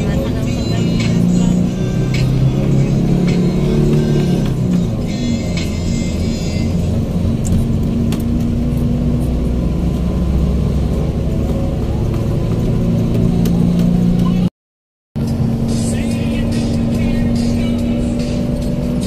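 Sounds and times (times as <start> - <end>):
vehicle cabin engine and road drone: 0.0 - 14.5, 15.2 - 19.0.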